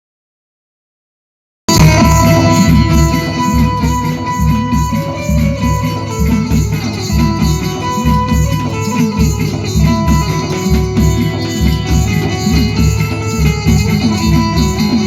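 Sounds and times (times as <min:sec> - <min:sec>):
heavy pulsing bass beat: 0:01.7 - 0:15.0
plucked-string melody: 0:01.7 - 0:15.0.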